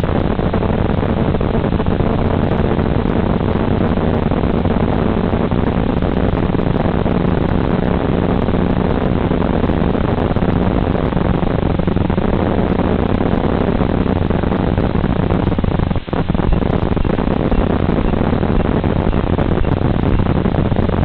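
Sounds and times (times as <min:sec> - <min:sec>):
drone motors humming: 0:00.0 - 0:21.0
rushing wind and propellers: 0:00.0 - 0:21.0.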